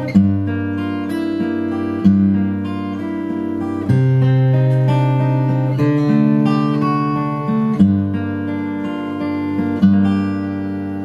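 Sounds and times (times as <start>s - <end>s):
acoustic guitar chords ringing: 0.0s - 11.0s.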